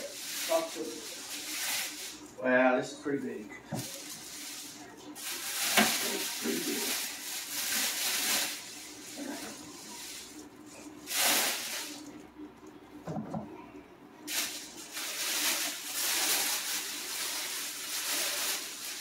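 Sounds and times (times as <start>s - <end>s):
plastic wrap rustling: 0.0s - 12.1s, 14.3s - 19.0s.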